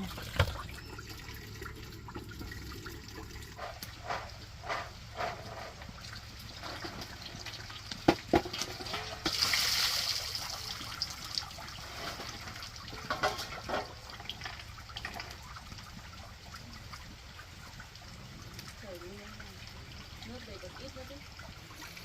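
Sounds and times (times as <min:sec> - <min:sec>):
drips and clinks: 0:00.0 - 0:22.0
water pouring and splashing: 0:00.0 - 0:22.0.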